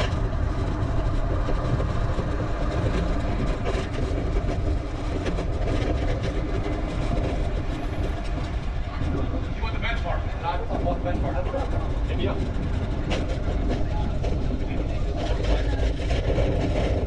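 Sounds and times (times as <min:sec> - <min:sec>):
bicycle rolling noise: 0:00.0 - 0:17.0
wind rush: 0:00.0 - 0:17.0.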